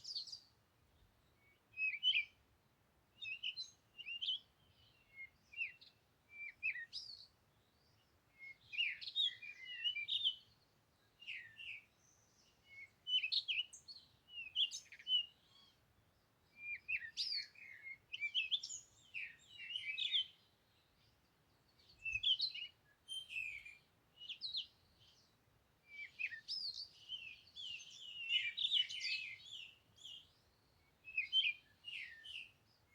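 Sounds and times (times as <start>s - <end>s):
small birds chirping: 0.0s - 2.5s, 3.1s - 32.9s.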